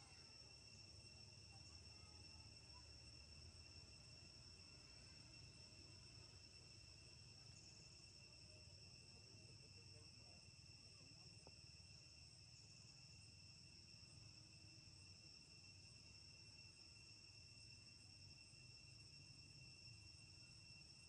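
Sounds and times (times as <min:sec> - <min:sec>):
insect chirring: 0:00.0 - 0:21.0.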